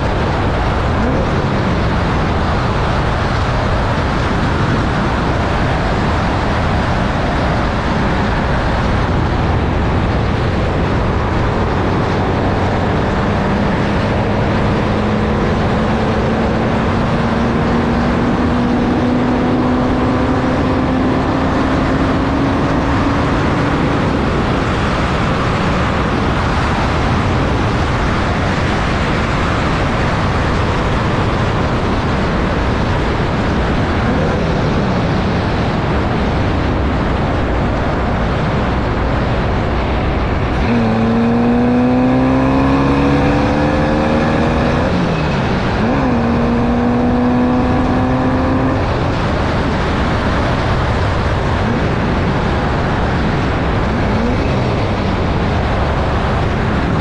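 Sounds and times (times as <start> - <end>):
racing car engine at full throttle: 0.0 - 57.0
wind rush: 0.0 - 57.0.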